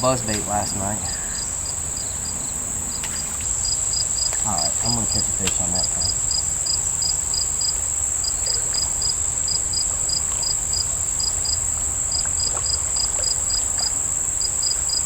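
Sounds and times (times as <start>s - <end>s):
cricket chirps: 0.0s - 15.0s.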